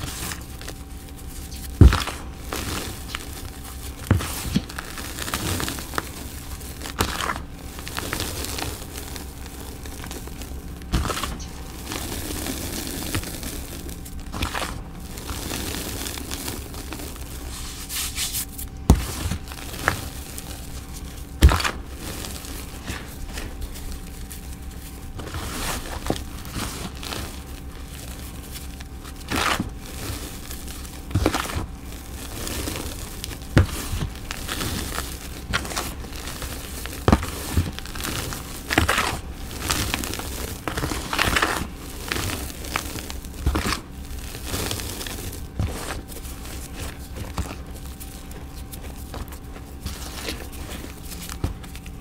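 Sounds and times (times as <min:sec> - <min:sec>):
chalk powder crunching: 0:00.0 - 0:52.0.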